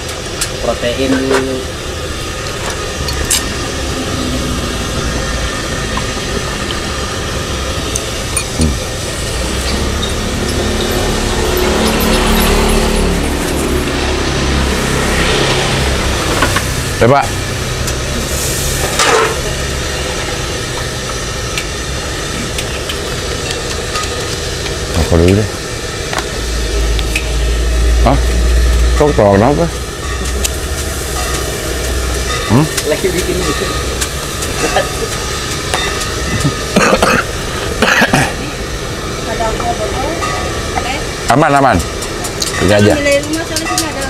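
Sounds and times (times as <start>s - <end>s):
engine idling hum: 0.0s - 44.0s
street traffic rumble: 0.0s - 44.0s.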